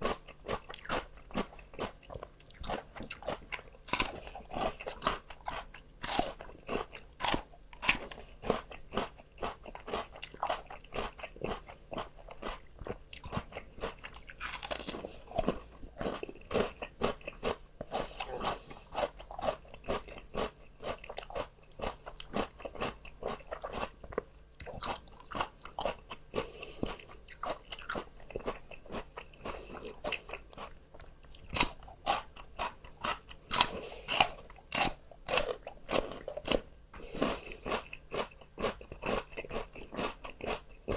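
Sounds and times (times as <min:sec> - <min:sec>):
crunching raw vegetables: 0:00.0 - 0:40.9.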